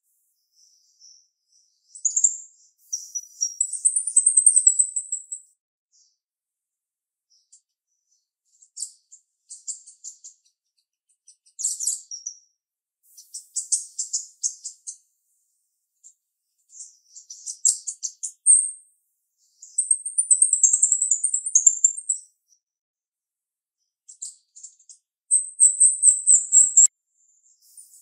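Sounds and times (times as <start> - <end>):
myna bird singing: 0.0 - 6.2, 7.3 - 12.5, 13.1 - 18.8, 19.4 - 22.3, 24.0 - 28.0.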